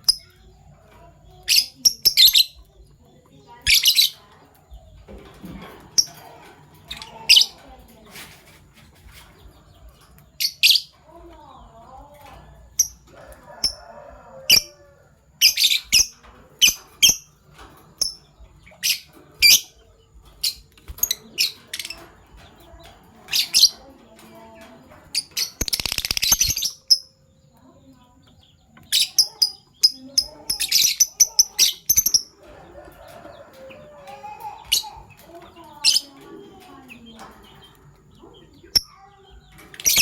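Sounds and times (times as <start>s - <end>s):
lovebirds chirping: 0.0s - 40.0s.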